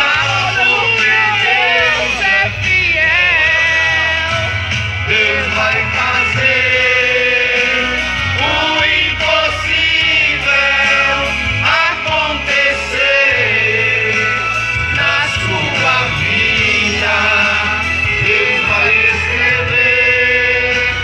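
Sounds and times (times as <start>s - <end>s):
backing music: 0.0s - 21.0s
man singing into a microphone: 0.0s - 21.0s.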